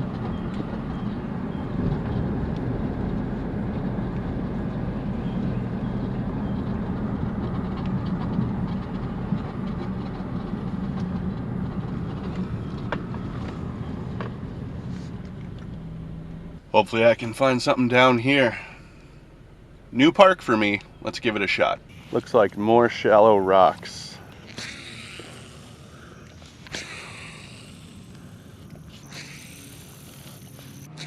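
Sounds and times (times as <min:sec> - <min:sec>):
road and engine rumble: 0:00.0 - 0:31.0.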